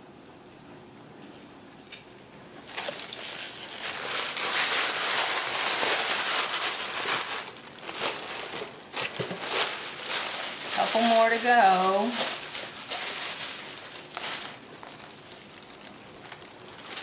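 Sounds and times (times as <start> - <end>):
packaging crinkling: 2.6 - 17.0.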